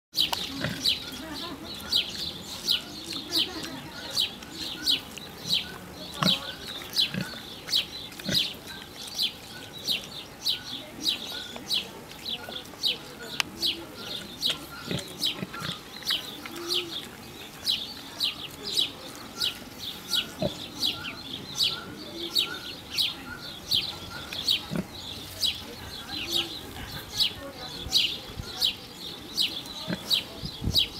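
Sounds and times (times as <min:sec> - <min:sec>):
pig chewing and smacking lips: 0:00.2 - 0:27.1.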